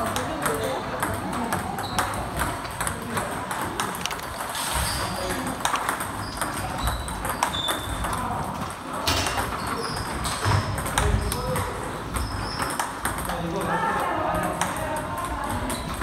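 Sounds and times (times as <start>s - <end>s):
table tennis balls clicking: 0.0s - 16.0s.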